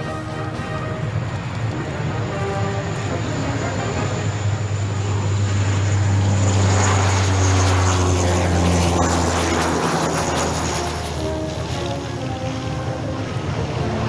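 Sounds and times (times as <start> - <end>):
turboprop plane droning past: 0.0 - 14.0.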